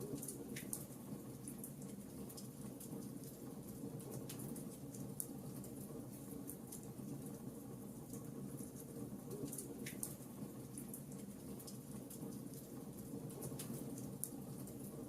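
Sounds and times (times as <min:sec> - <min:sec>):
fire burning in a fireplace: 0:00.0 - 0:15.0.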